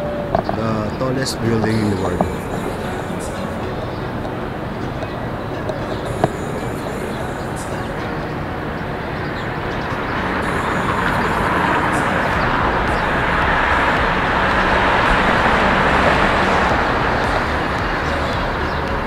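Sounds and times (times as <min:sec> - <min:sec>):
road traffic rush: 0:00.0 - 0:19.0.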